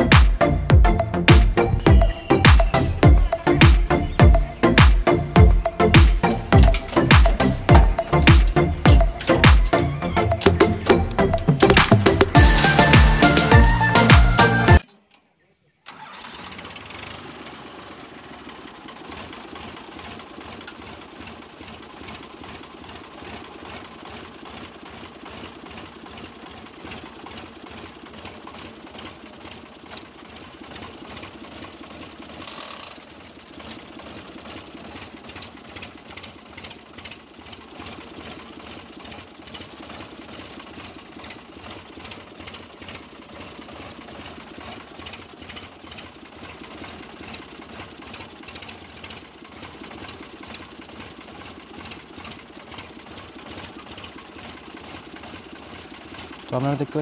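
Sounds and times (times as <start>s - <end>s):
tractor diesel engine running: 0.0s - 14.9s, 15.9s - 57.0s.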